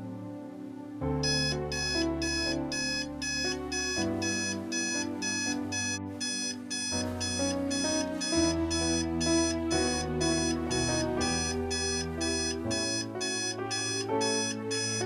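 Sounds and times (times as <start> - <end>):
soft background music: 0.0 - 15.0
alarm clock beeping: 1.2 - 15.0.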